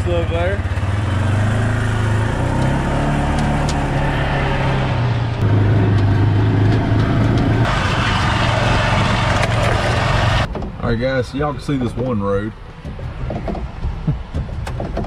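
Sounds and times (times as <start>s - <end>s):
vehicle rattling over rough ground: 0.0s - 15.0s.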